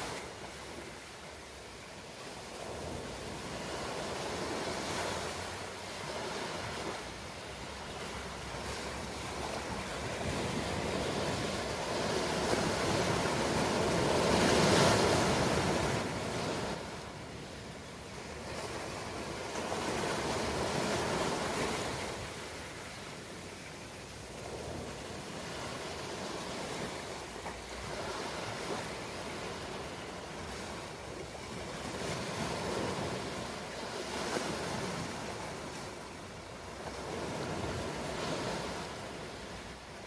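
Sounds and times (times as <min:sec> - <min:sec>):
ocean waves washing in: 0:00.0 - 0:40.0.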